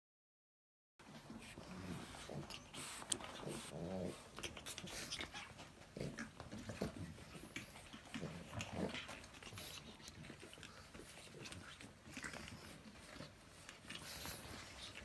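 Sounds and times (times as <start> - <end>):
paws and claws clicking: 1.1 - 15.0.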